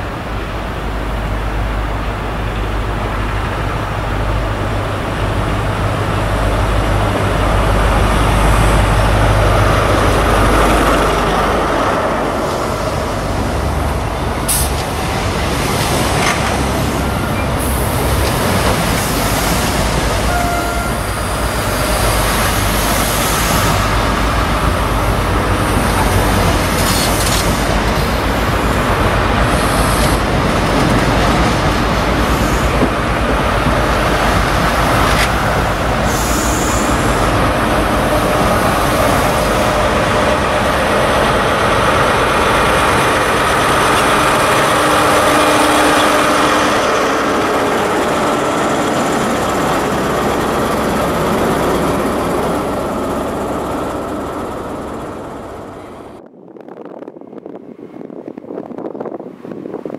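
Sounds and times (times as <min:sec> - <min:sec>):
coaches rolling over rails: 0:00.0 - 0:56.2.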